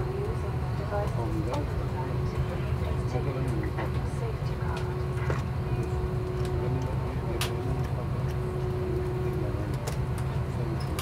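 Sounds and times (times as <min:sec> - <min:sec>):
airliner cabin drone: 0:00.0 - 0:11.0
constant hum tone: 0:00.0 - 0:11.0.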